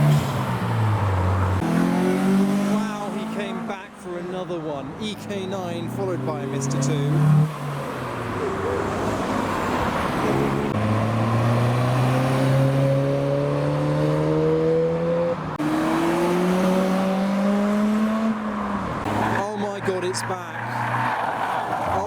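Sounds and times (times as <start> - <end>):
car engine accelerating: 0.0 - 3.7, 5.9 - 21.4.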